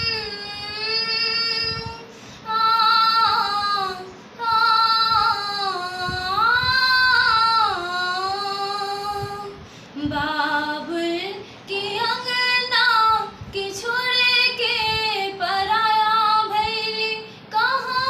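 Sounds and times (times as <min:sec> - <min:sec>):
girl singing unaccompanied: 0:00.0 - 0:18.0.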